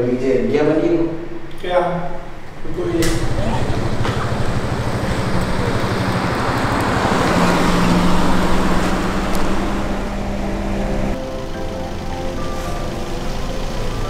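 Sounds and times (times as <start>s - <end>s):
steady engine hum: 2.2s - 14.0s
car driving past: 2.7s - 14.0s.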